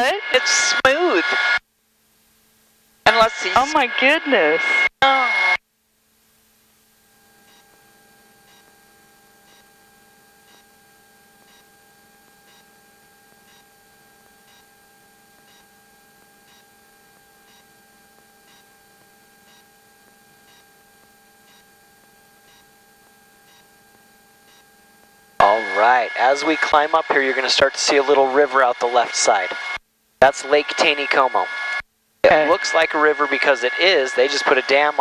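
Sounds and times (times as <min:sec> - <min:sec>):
faint electrical hum: 0:00.0 - 0:35.0.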